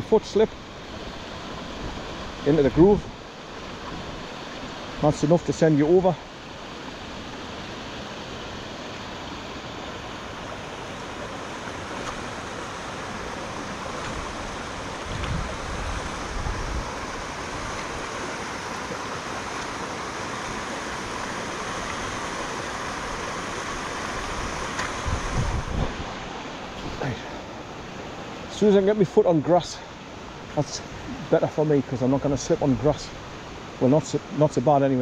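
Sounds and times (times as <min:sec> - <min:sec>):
river rushing: 0:00.0 - 0:35.0.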